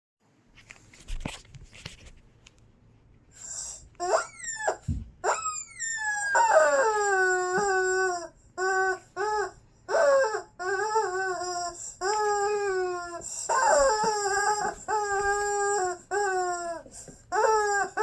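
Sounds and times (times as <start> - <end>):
squeaky dog toy squeaking: 3.4 - 18.0.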